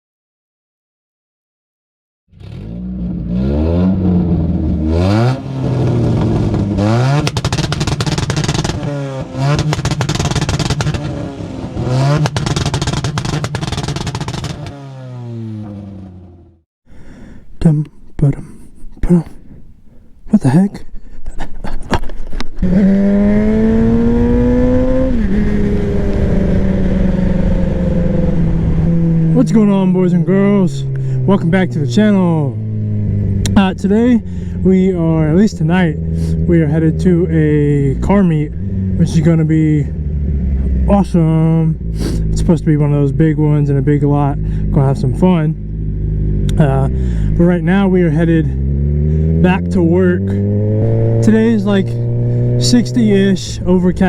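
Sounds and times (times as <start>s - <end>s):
vehicle engine revving: 2.3s - 16.6s, 22.2s - 54.0s.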